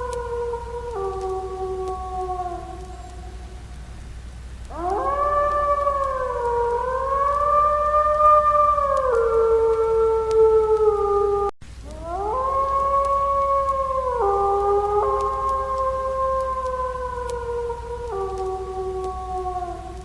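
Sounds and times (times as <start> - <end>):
wolf howling: 0.0 - 3.7, 4.7 - 20.0.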